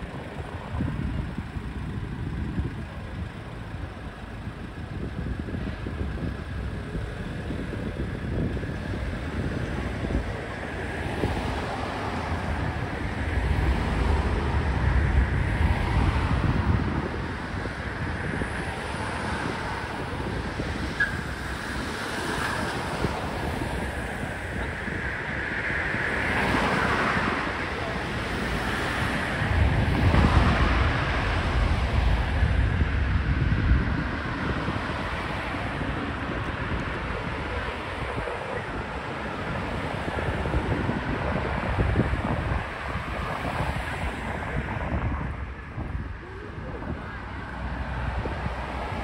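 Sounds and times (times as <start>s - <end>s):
traffic noise: 0.0s - 49.0s
wind buffeting microphone: 0.0s - 49.0s.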